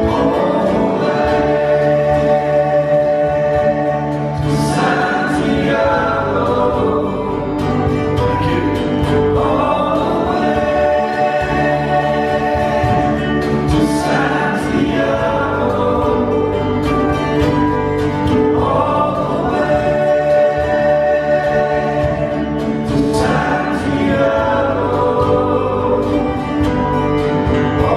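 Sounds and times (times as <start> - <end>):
acoustic guitars: 0.0 - 27.9
voices singing in harmony: 0.0 - 27.9.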